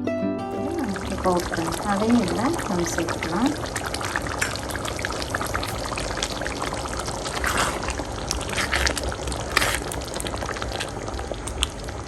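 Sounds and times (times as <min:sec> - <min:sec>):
gravy bubbling: 0:00.7 - 0:12.0.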